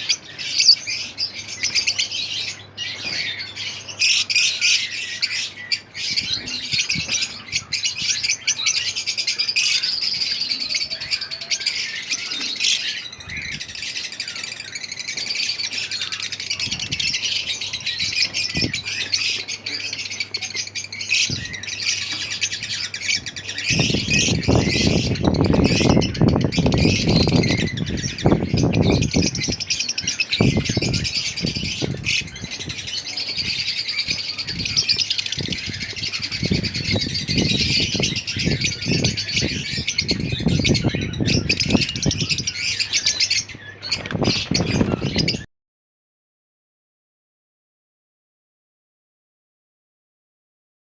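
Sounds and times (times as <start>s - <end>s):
lovebirds chirping: 0.0s - 45.5s.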